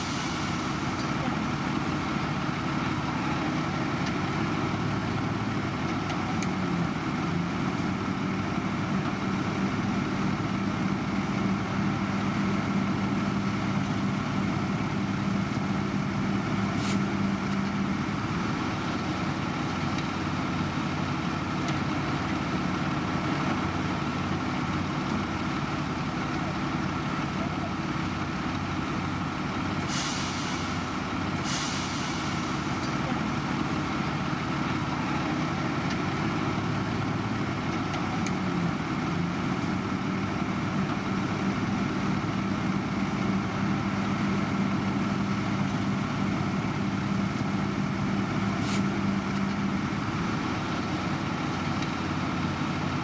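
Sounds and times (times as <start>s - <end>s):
diesel machinery engine drone: 0.0s - 53.0s.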